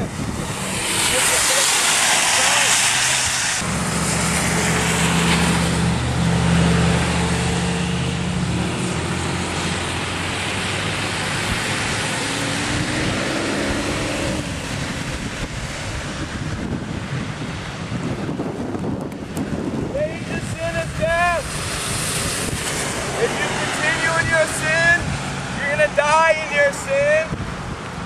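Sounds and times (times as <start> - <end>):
faint traffic: 0.0 - 16.7, 19.8 - 28.0
rain: 0.0 - 26.8
vehicle engine humming: 0.0 - 28.0
wind buffeting microphone: 0.0 - 28.0.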